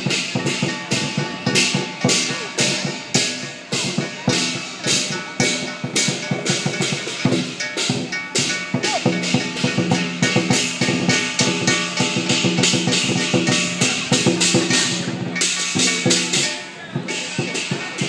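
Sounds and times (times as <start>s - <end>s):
cymbals clashing: 0.0s - 18.0s
large drum beating: 0.0s - 18.0s.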